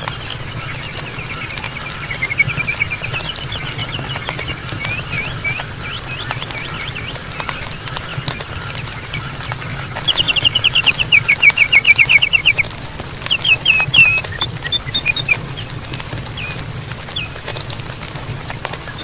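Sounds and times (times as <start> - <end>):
bird calling high notes: 0.0 - 17.8
campfire crackling and popping: 0.0 - 19.0.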